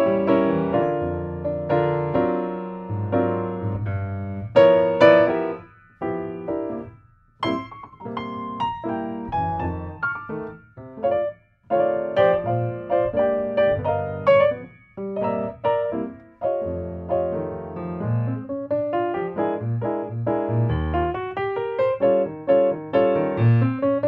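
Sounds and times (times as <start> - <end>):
piano notes and chords: 0.0 - 24.0.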